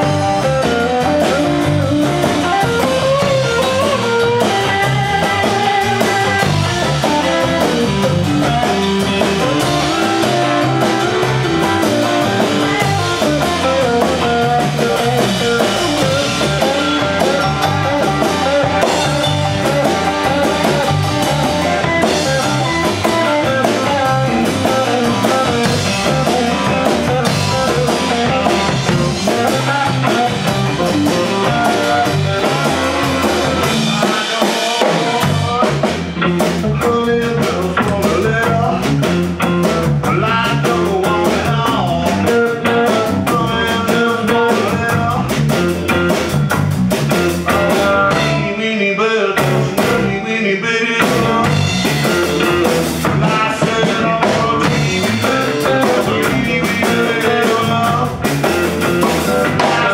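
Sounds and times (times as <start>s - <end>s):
drum kit beat: 0.0s - 48.6s, 49.4s - 50.2s, 51.0s - 59.9s
bass guitar: 0.0s - 59.9s
electric guitar: 0.0s - 59.9s.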